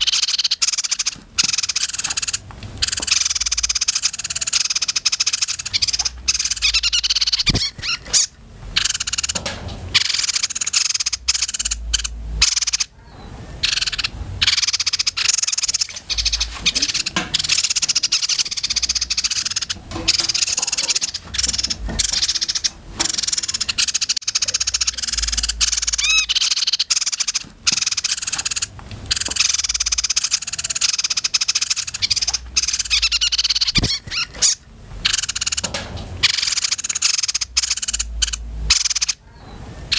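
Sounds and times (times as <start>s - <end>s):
songbirds singing and chattering: 0.0s - 39.9s.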